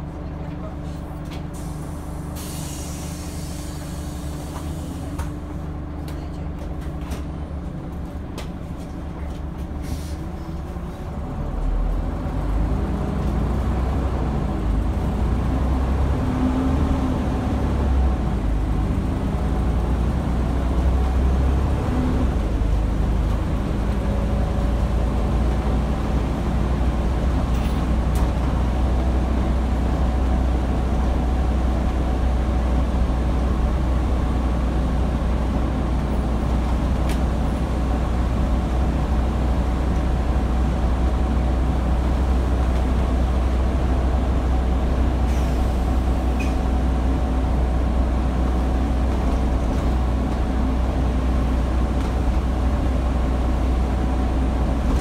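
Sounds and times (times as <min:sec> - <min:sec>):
diesel bus engine: 0:00.0 - 0:55.0.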